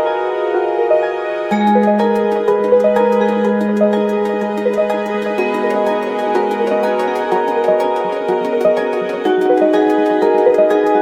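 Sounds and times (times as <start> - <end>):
held synth notes: 0.0 - 11.0
quick steady beat: 1.5 - 11.0.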